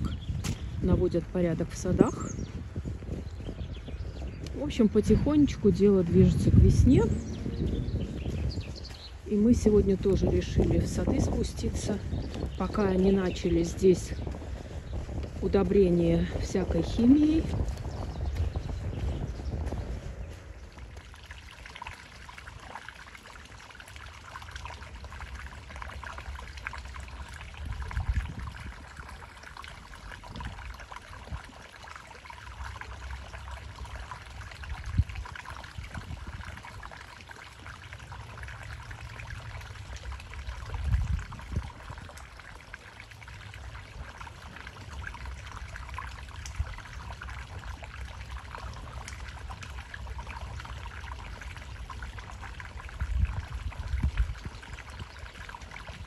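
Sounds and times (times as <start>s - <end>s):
stream trickling: 0.0s - 56.0s
wind gusts on microphone: 0.0s - 56.0s.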